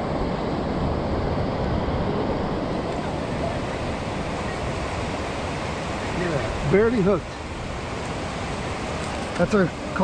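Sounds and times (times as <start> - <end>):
ocean surf washing up: 0.0 - 10.0
wind rumbling on microphone: 0.0 - 10.0.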